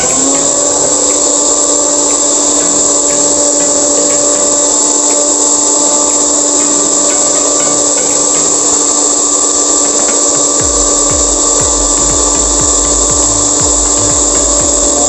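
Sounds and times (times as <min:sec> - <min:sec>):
electric hand mixer whining: 0:00.0 - 0:15.0.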